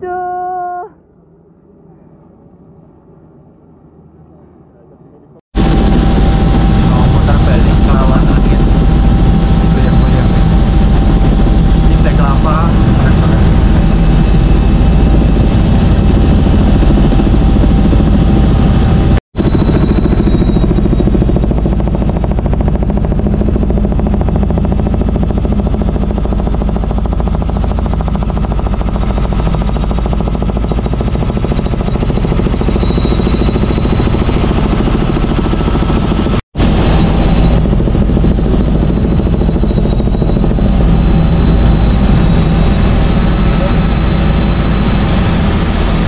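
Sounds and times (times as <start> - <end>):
helicopter engine drone with whine: 0.0 - 46.0
helicopter rotor blades chopping: 5.6 - 46.0.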